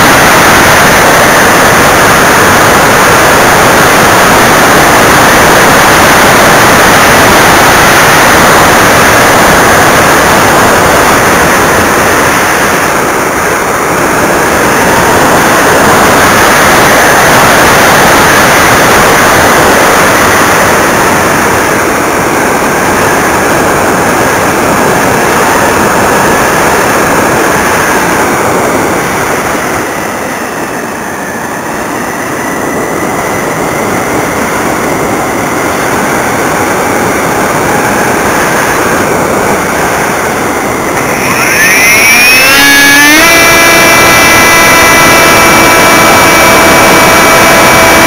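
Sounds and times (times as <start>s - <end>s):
airflow rushing past camera: 0.0s - 48.0s
electric motor whine: 0.0s - 48.0s.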